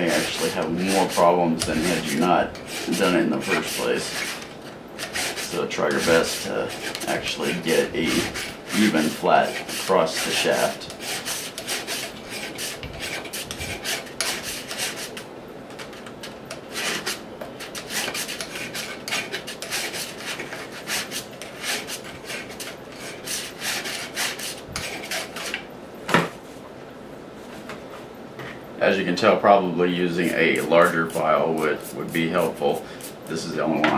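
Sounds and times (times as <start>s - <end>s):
file rasping on steel: 0.0s - 15.2s, 16.5s - 25.6s, 30.2s - 33.2s.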